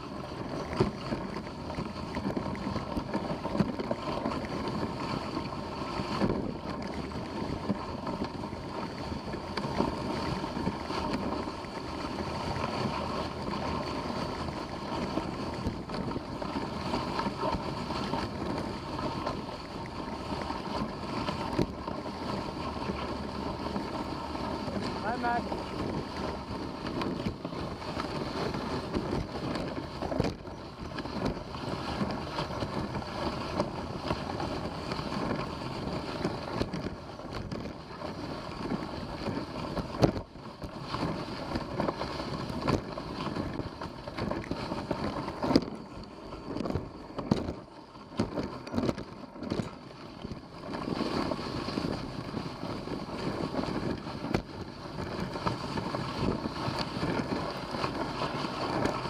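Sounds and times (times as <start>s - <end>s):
sled runners rushing on snow: 0.0s - 59.0s
wind buffeting microphone: 0.6s - 59.0s.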